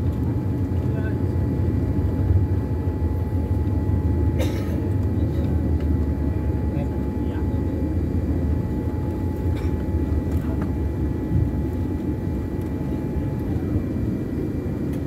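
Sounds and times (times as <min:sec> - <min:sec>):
jet engine and airflow rumble: 0:00.0 - 0:15.0.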